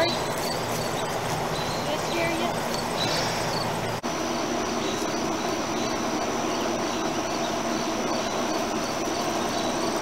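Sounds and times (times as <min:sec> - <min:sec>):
exhaust fan drone: 0:00.0 - 0:10.0
insects trilling: 0:00.0 - 0:10.0.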